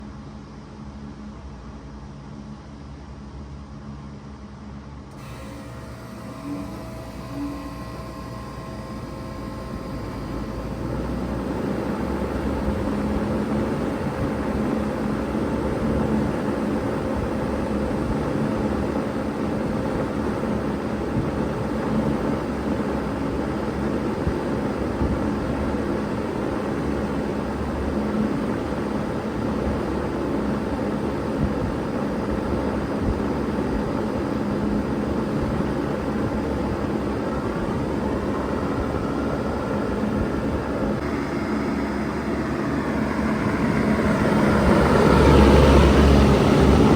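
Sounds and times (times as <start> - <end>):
heat pump fan and compressor humming: 5.0 - 46.9.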